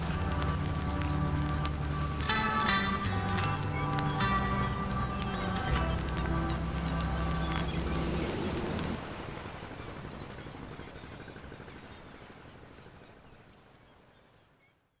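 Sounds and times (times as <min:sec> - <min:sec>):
water washing on shore: 0:00.0 - 0:13.9
wind: 0:00.0 - 0:15.0.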